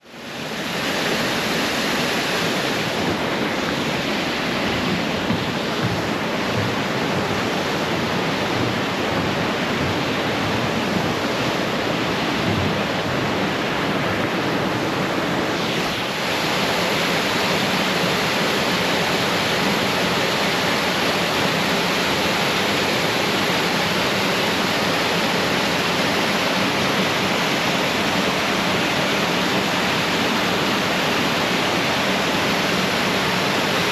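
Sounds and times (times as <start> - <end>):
waterfall rushing roar: 0.0 - 33.9.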